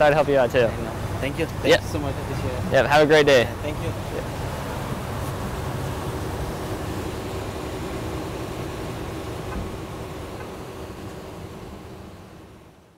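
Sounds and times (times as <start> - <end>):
faint steady hum: 0.0 - 12.9
traffic noise with low rumble: 0.0 - 12.9.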